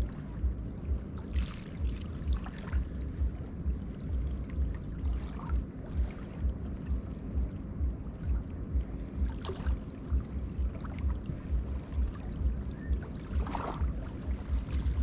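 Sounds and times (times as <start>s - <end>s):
low pulsing throb: 0.0s - 15.0s
river water lapping and splashing: 0.0s - 15.0s.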